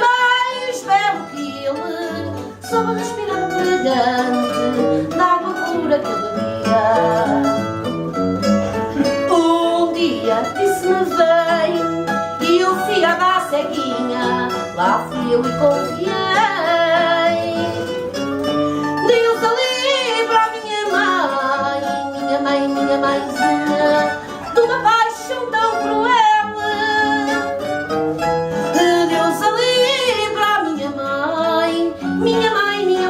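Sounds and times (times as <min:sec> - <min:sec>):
guitars playing: 0:00.0 - 0:33.0.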